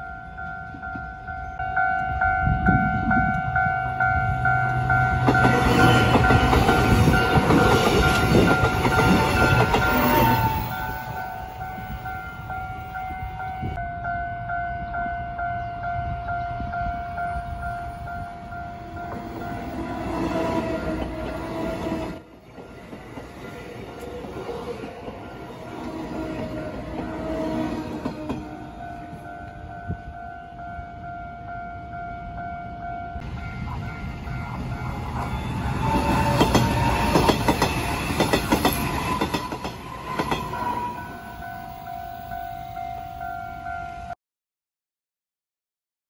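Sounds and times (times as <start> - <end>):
level crossing warning bell: 0.0 - 22.2, 25.1 - 44.2
electric train passing: 0.0 - 44.2.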